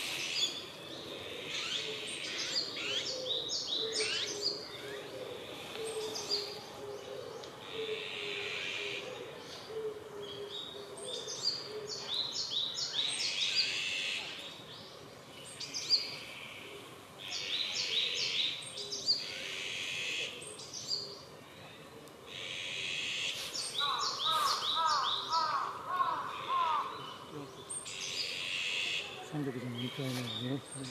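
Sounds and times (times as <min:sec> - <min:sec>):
birds chirping and singing: 0:00.0 - 0:16.6, 0:17.2 - 0:30.9.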